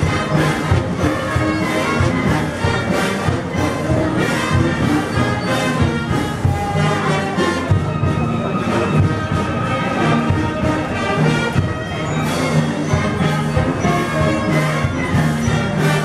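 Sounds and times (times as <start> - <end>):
brass band playing a march: 0.0 - 16.0.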